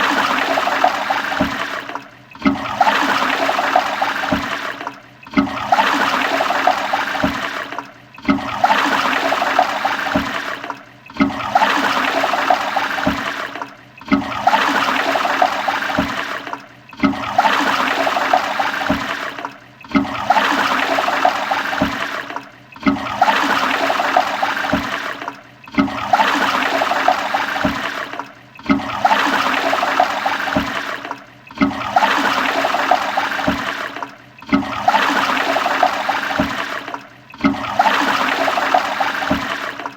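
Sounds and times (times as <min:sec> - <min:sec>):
toilet flushing: 0:00.0 - 0:39.9.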